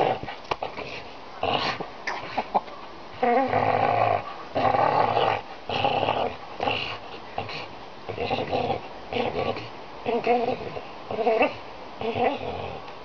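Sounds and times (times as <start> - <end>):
dog growling: 0.0 - 2.3, 3.2 - 12.9.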